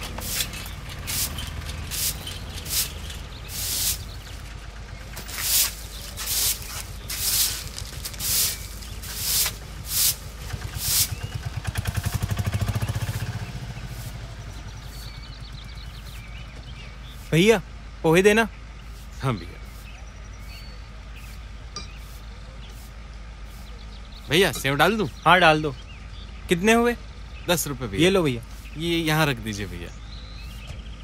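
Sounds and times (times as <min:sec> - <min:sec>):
broom sweeping gritty road: 0:00.0 - 0:17.6, 0:18.8 - 0:25.6, 0:27.9 - 0:30.8
vehicle engine passing: 0:00.0 - 0:29.9.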